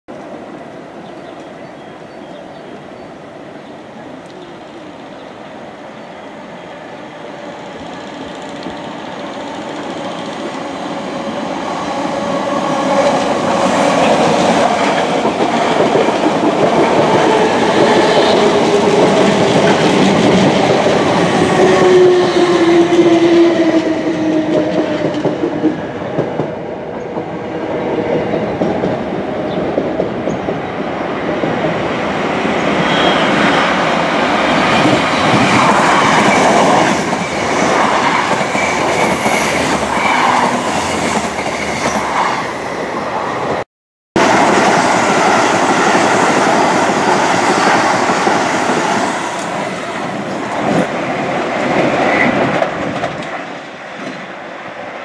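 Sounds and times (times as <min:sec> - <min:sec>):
train running past: 0:00.1 - 0:43.6, 0:44.2 - 0:55.0.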